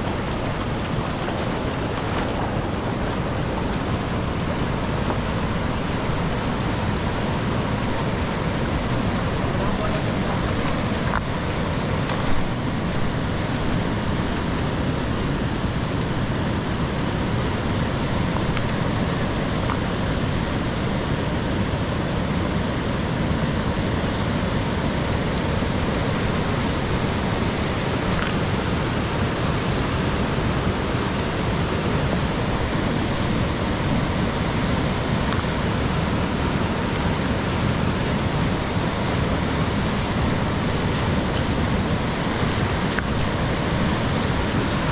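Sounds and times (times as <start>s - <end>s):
river rapids rushing over rocks: 0.0s - 44.9s.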